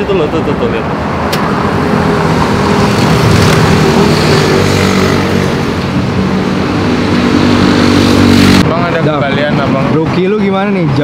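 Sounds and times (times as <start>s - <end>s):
road traffic engines running: 0.0s - 11.0s.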